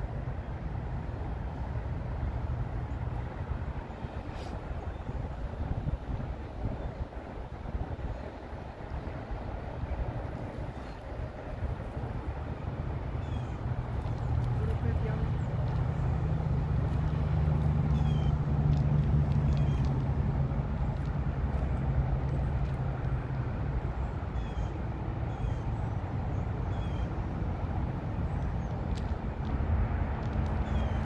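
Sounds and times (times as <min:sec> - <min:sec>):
outdoor background noise: 0:00.0 - 0:31.0
passing vehicle engine hum: 0:00.0 - 0:31.0.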